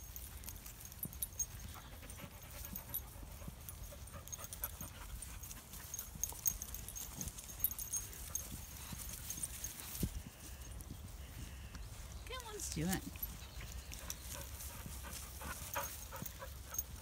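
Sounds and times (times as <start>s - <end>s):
dogs panting: 0.0s - 17.0s
rustling through grass: 0.0s - 17.0s.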